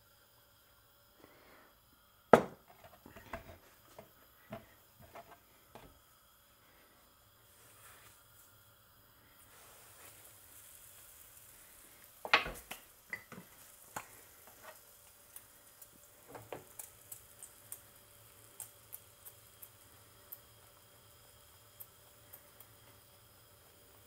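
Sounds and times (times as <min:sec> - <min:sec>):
dough frying in hot oil: 0:00.0 - 0:24.0.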